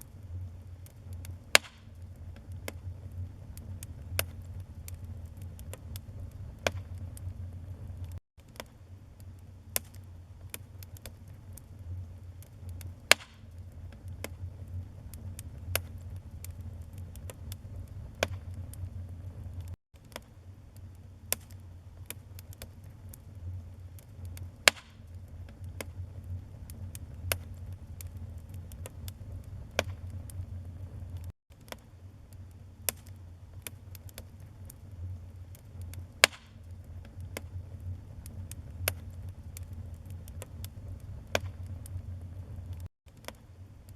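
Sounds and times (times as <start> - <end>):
low fire rumble: 0.0 - 43.9
wood fire crackling: 0.0 - 43.9.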